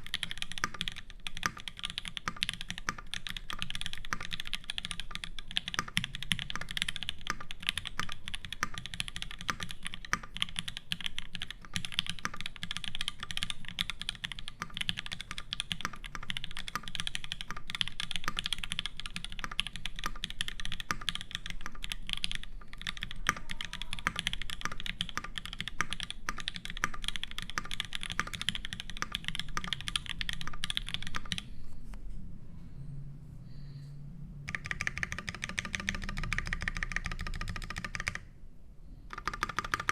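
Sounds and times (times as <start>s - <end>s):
mechanical keyboard typing: 0.0s - 31.5s, 34.5s - 38.3s, 39.1s - 39.9s.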